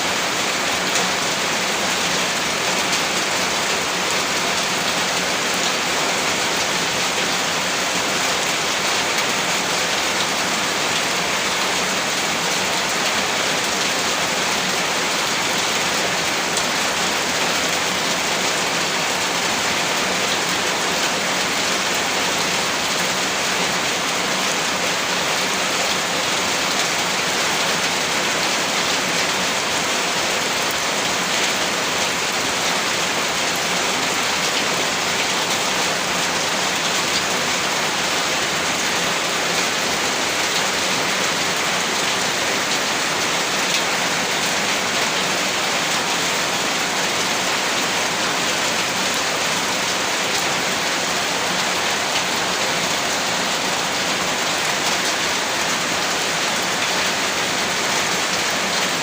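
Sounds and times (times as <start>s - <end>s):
heavy rainfall: 0.0s - 59.0s.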